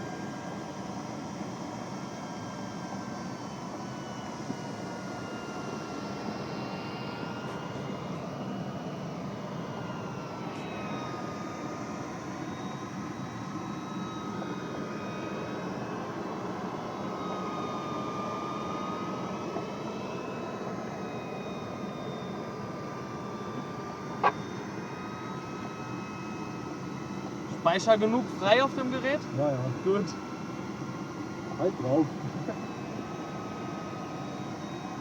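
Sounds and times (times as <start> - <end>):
light aircraft cockpit noise: 0.0 - 35.0.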